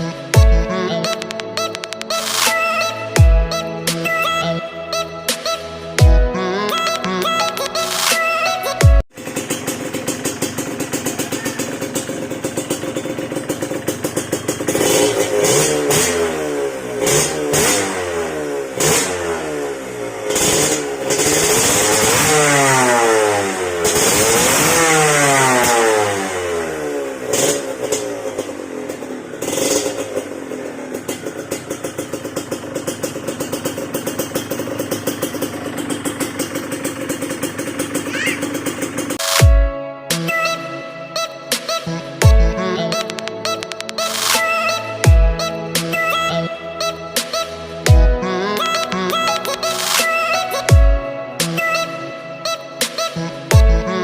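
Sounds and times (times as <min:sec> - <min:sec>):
two-stroke motorcycle engine revving: 0:09.0 - 0:54.0.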